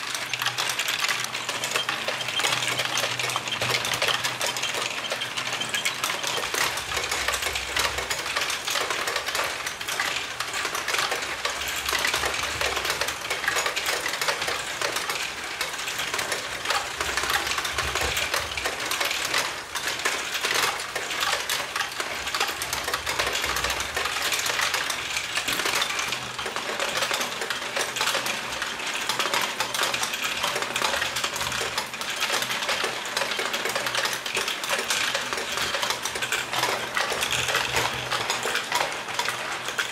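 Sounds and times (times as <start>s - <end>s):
plastic balls clattering: 0.0s - 39.9s.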